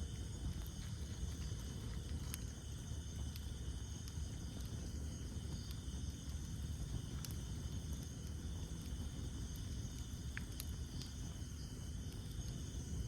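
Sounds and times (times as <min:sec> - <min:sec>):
campfire rumbling and crackling: 0:00.0 - 0:13.0
night insects chorus: 0:00.0 - 0:13.0.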